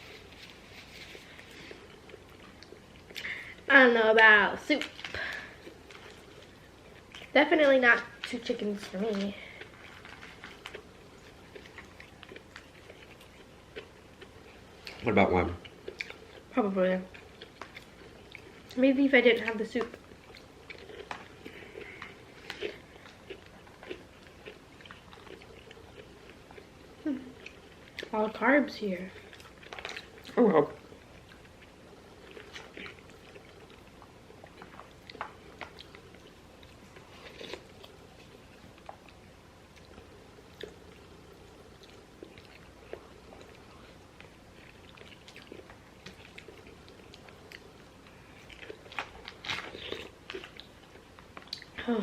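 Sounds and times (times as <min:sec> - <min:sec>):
soft chewing: 0:00.0 - 0:52.0.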